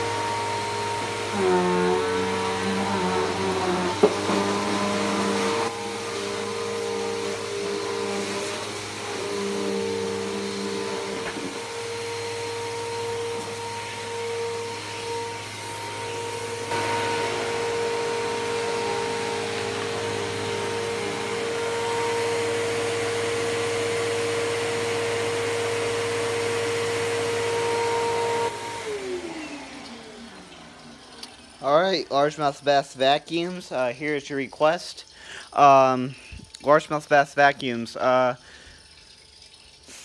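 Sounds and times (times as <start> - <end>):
vacuum motor winding down: 0.0 - 32.4
vacuum cleaner running: 0.0 - 32.8.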